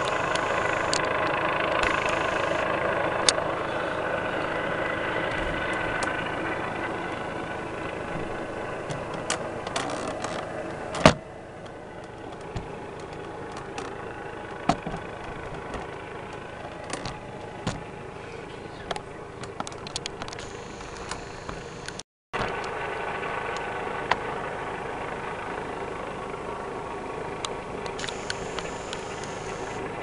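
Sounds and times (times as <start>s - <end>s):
distant helicopter drone: 0.0s - 30.0s.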